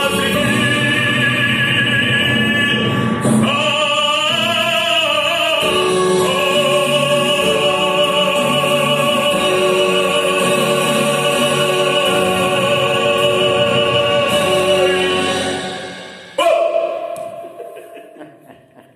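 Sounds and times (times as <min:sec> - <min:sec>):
man singing operatically: 0:00.0 - 0:17.9
orchestral backing track: 0:00.0 - 0:18.2.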